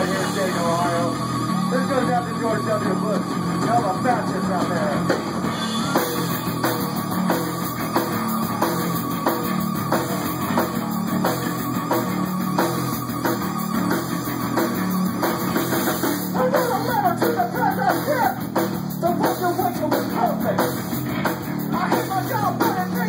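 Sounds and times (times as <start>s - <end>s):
drums beating: 0.0s - 23.0s.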